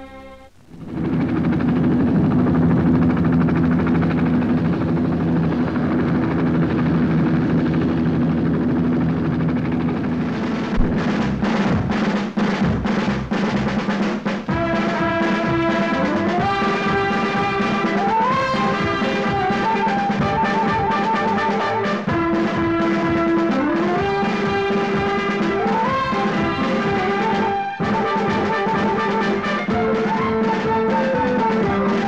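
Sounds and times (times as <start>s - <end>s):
film score music: 0.0s - 32.0s
helicopter rotor and engine drone: 0.7s - 11.2s, 14.5s - 32.0s
steady drum beat: 0.8s - 32.0s.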